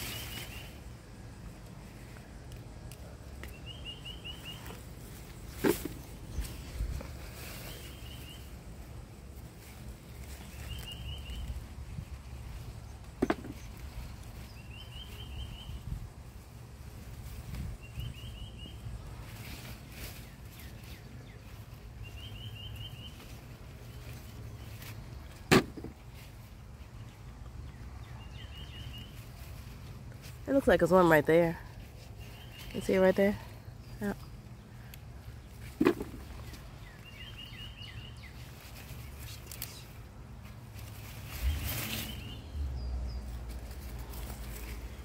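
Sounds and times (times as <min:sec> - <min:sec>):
hands rummaging through soil: 0:00.0 - 0:45.0.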